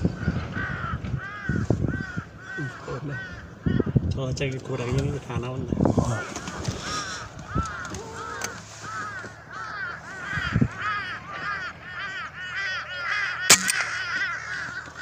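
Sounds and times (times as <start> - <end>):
crows cawing: 0.0 - 4.1, 6.1 - 15.0.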